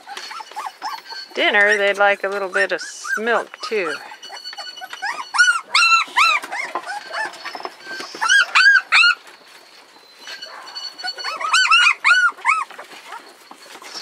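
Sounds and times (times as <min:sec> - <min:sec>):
puppies whining: 0:00.0 - 0:14.0.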